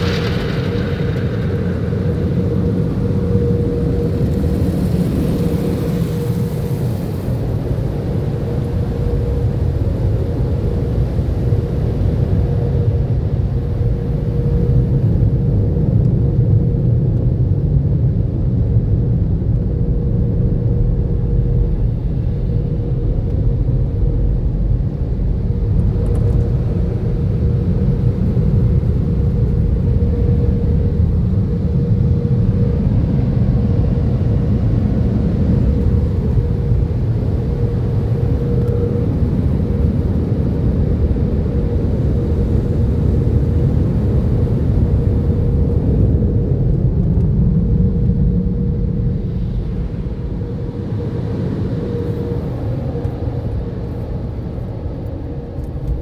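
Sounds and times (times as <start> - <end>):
car wash machinery rumble and hum: 0.0 - 56.0.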